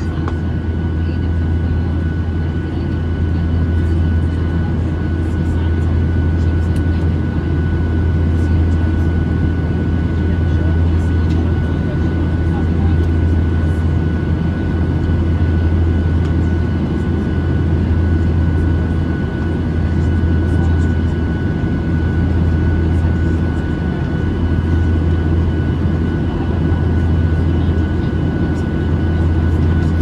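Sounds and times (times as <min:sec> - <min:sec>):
airplane engine drone: 0:00.0 - 0:30.0.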